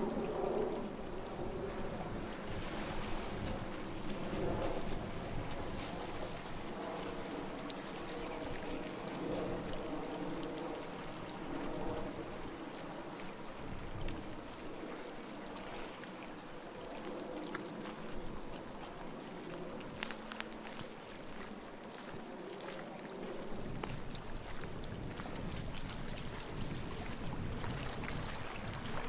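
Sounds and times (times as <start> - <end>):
small waves lapping: 0.0 - 29.0.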